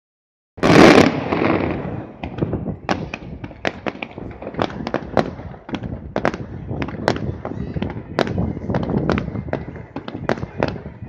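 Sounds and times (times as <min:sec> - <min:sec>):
firework cracks and pops: 0:00.6 - 0:11.0.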